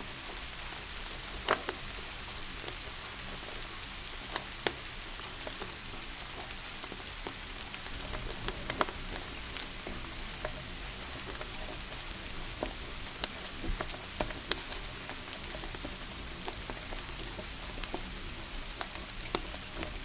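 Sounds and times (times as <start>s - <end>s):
rain hiss: 0.0s - 20.0s
wood fire crackling: 0.0s - 20.0s.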